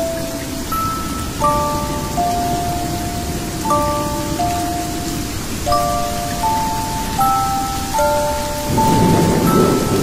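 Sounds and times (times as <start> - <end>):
bell-like music notes: 0.0 - 10.0
rain hiss: 0.0 - 10.0.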